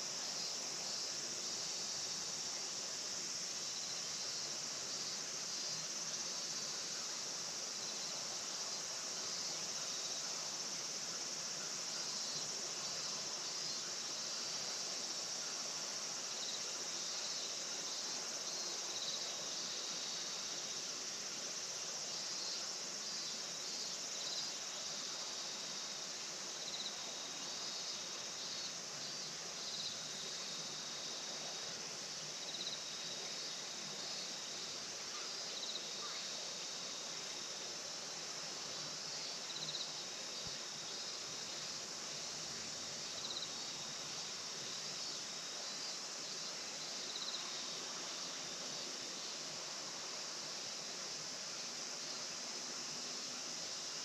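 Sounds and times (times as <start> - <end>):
insects trilling drone: 0.0 - 54.0.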